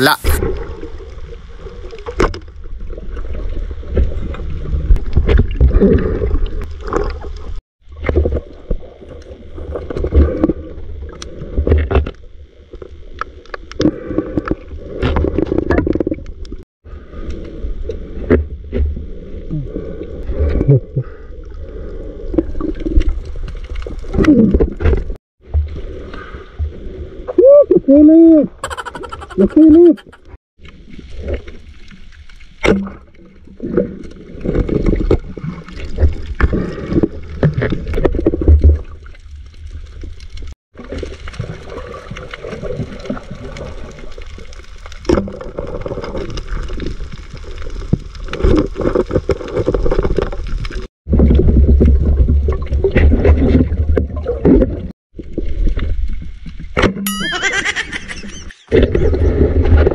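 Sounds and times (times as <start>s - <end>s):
underwater water rush and gurgle: 0.0s - 27.3s, 30.6s - 56.8s.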